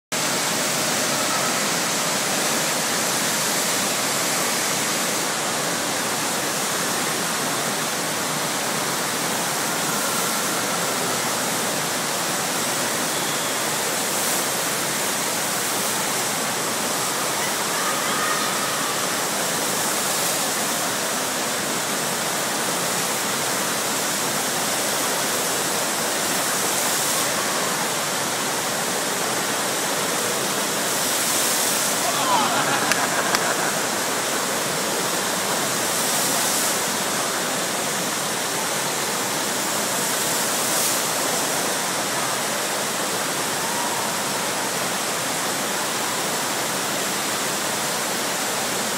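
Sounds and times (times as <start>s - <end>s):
water rushing over surface: 0.1s - 48.9s.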